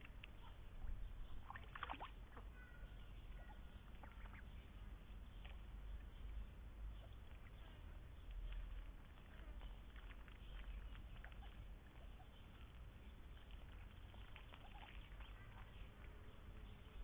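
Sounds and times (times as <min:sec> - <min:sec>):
soft ticks and patters: 0:00.0 - 0:17.0.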